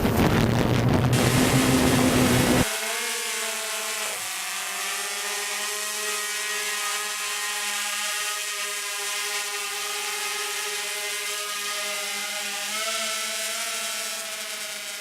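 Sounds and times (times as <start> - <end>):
quadcopter motors whining: 0.1 - 15.0.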